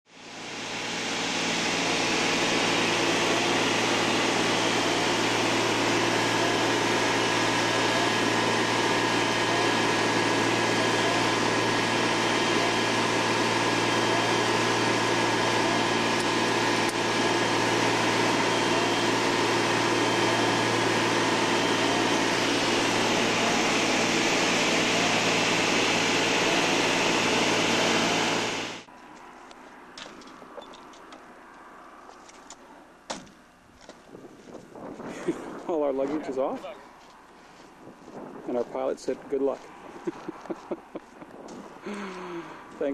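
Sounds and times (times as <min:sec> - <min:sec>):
propeller plane engine drone: 0:00.1 - 0:42.9.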